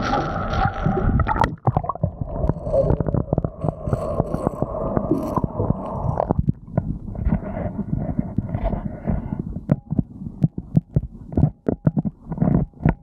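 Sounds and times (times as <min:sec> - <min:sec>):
muffled underwater drone: 0:00.0 - 0:13.0.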